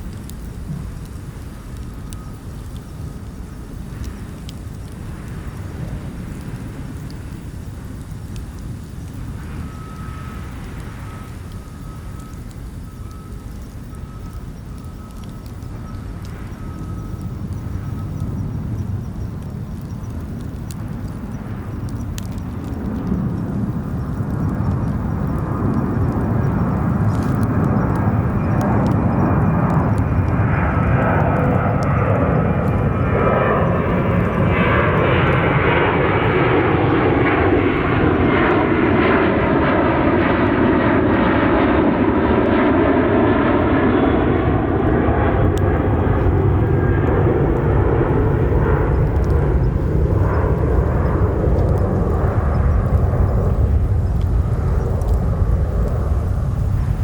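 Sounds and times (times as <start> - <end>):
campfire crackling: 0.0 - 57.0
jet airplane passing overhead: 0.0 - 57.0.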